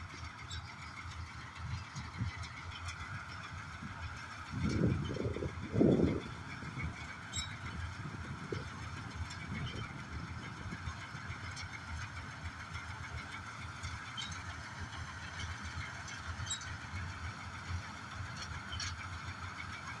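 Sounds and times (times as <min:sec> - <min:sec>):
combine harvester engine rumble: 0:00.0 - 0:20.0.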